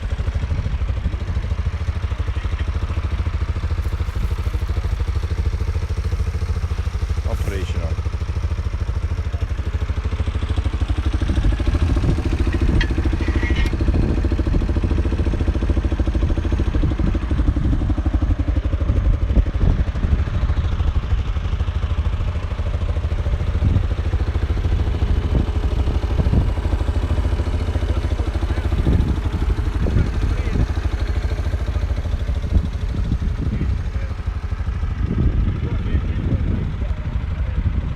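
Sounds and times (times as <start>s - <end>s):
light engine clatter: 0.0s - 37.9s
quad bike engine idling: 0.0s - 37.9s.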